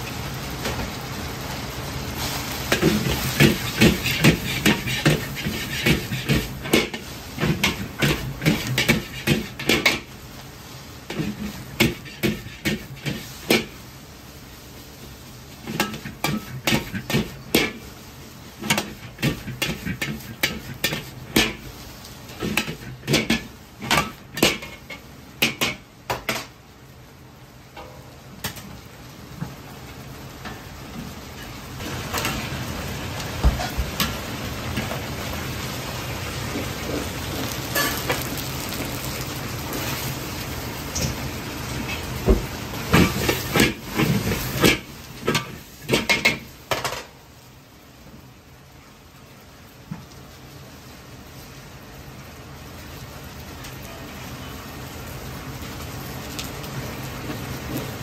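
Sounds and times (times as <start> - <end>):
chicken sizzling in hot oil: 0.0 - 58.0.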